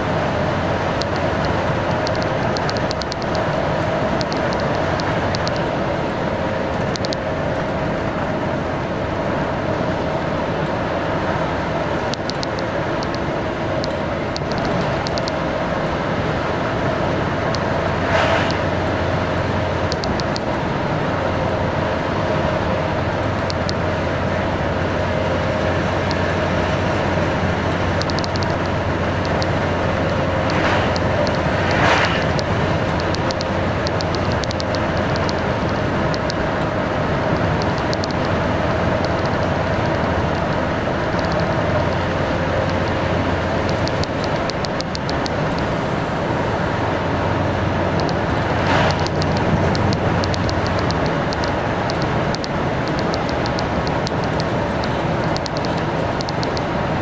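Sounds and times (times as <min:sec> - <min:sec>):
tyre and road noise: 0:00.0 - 0:57.0
vehicle engine drone: 0:00.0 - 0:57.0.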